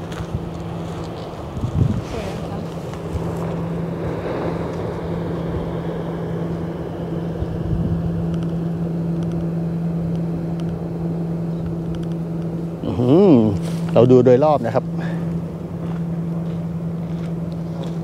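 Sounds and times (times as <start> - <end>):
engine drone: 0.0 - 18.0
wind: 0.0 - 18.0.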